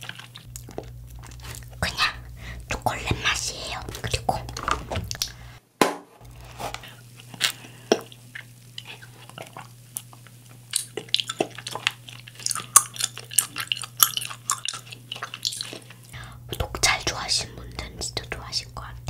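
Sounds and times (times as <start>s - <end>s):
wet chewing: 0.0s - 5.5s, 6.3s - 17.2s.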